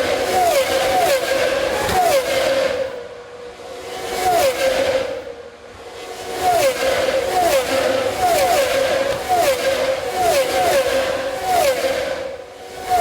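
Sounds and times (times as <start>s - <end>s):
racing cars passing: 0.0s - 13.0s.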